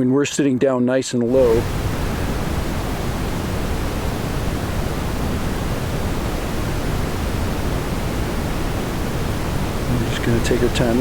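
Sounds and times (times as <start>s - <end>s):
waterfall rushing: 1.3s - 11.0s.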